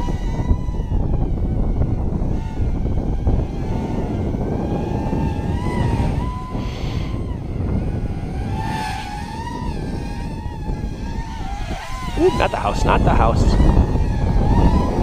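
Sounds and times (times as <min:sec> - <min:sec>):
drone motors whining: 0:00.0 - 0:15.0
wind rumble on microphone: 0:00.0 - 0:15.0.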